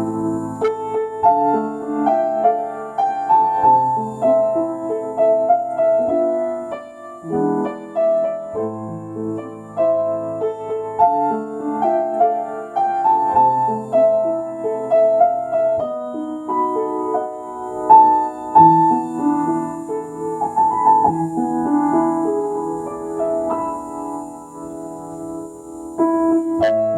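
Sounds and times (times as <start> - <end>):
slow solo piano: 0.0 - 26.9.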